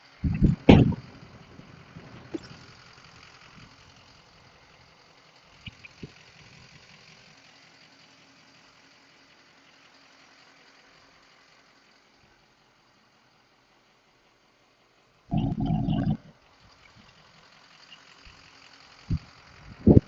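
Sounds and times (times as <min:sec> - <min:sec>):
diesel engine idling: 0:00.0 - 0:14.5, 0:15.3 - 0:20.0.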